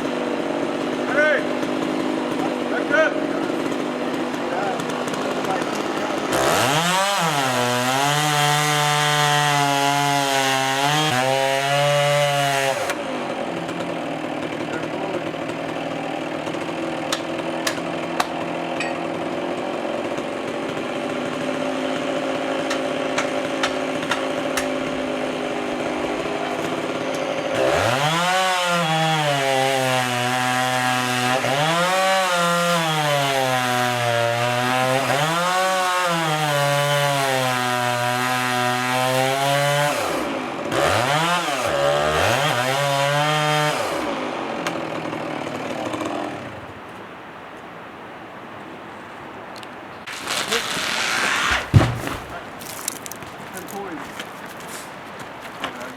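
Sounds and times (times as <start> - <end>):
chainsaw cutting wood: 0.0 - 46.8, 50.0 - 55.9.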